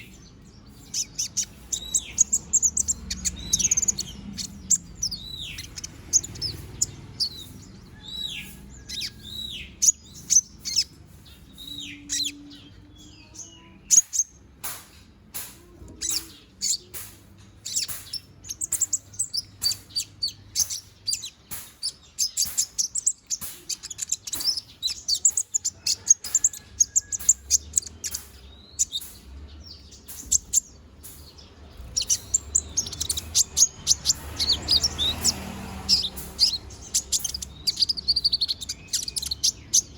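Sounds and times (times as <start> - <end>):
bird twittering chirps: 0.0 - 15.0, 15.9 - 39.9.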